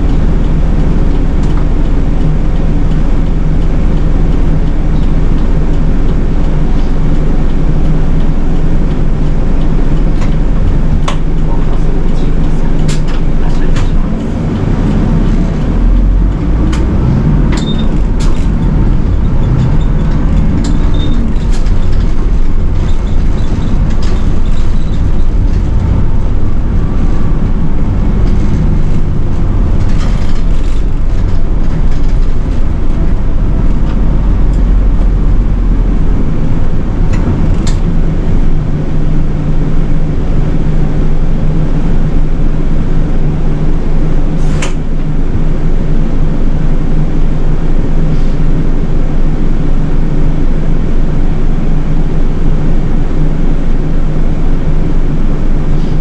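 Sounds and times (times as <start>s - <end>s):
bus diesel engine running: 0.0s - 56.0s
road and tyre noise: 0.0s - 56.0s.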